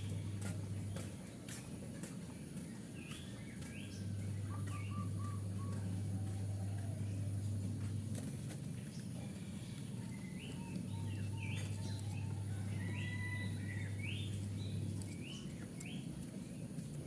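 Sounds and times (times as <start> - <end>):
birds chirping: 0.0 - 17.0
low steady hum: 0.0 - 17.0.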